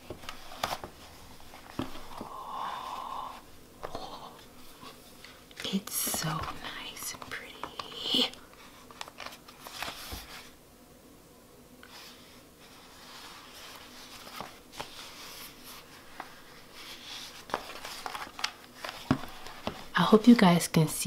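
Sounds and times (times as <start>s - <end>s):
leather cover rustling: 0.0s - 10.6s, 11.9s - 20.0s.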